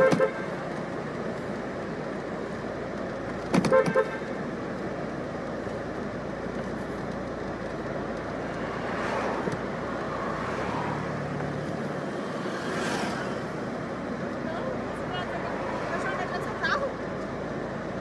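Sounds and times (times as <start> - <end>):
cars passing by: 0.0 - 18.0.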